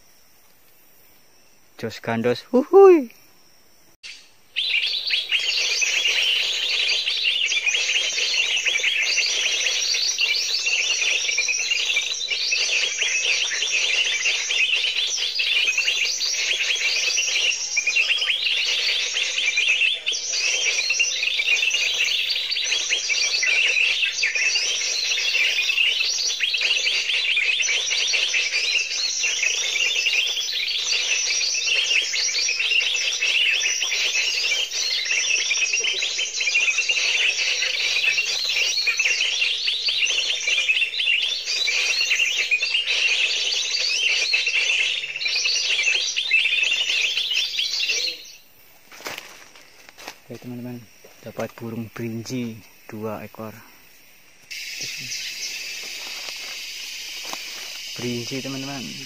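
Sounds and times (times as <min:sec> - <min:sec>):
recorded bird chirps and trills: 0:00.0 - 0:59.0.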